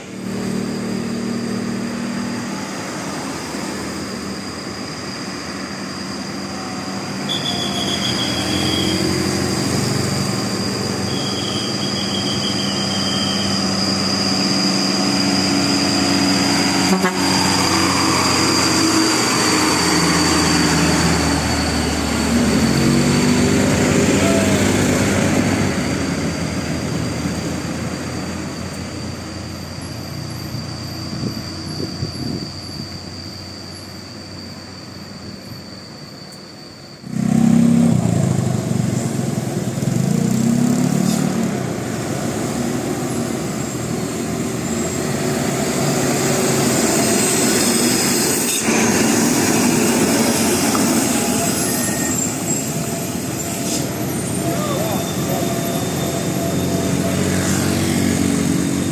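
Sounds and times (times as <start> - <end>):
bus engine: 0.0 - 58.9
road traffic noise: 0.0 - 58.9.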